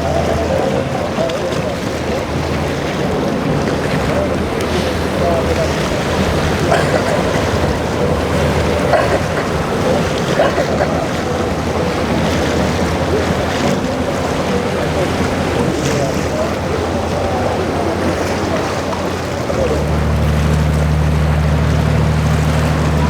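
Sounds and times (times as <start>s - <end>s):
boat engines running: 0.0s - 23.0s
waves: 0.0s - 23.0s.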